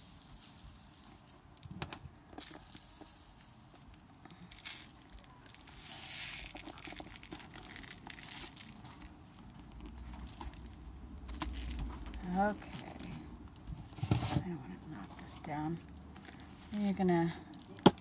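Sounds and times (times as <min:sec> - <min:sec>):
crinkling and rustling materials: 0:00.0 - 0:18.0.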